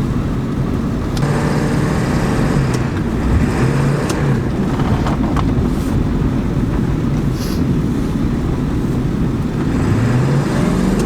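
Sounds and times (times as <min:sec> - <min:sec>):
car engine rumbling: 0:00.0 - 0:11.0
car skidding through snow: 0:01.2 - 0:11.0.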